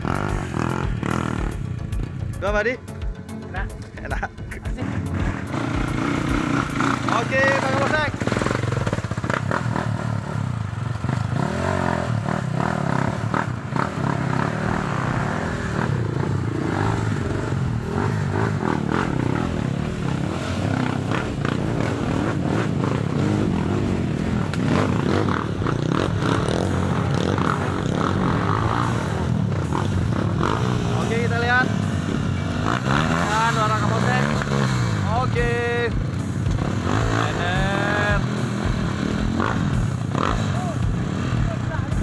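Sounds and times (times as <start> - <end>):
dirt bike engines running unevenly: 0.0 - 42.0.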